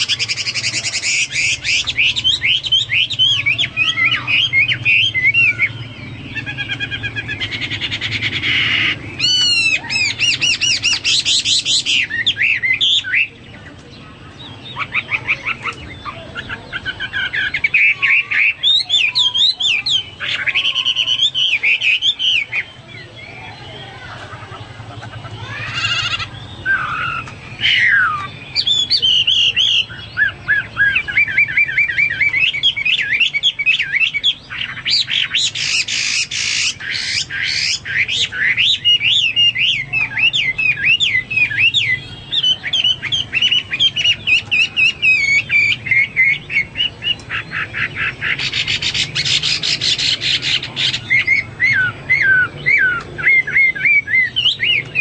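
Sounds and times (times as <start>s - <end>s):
bird singing whistled phrases: 0.0s - 13.4s, 14.6s - 24.1s, 25.4s - 55.0s.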